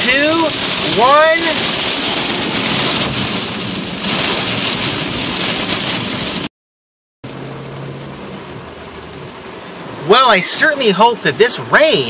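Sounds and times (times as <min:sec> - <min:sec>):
heavy rain on car roof: 0:00.0 - 0:06.5, 0:07.2 - 0:12.0.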